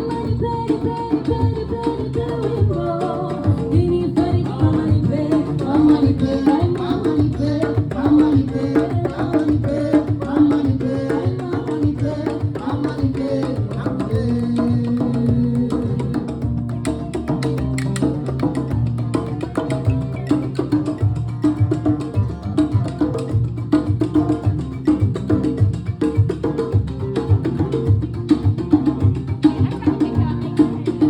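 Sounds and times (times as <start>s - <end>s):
hand drums and percussion: 0.0s - 31.0s.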